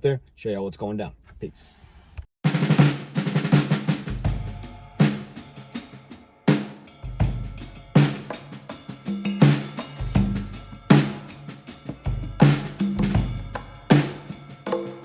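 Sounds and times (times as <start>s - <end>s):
drum-heavy beat with deep bass: 2.5s - 15.0s.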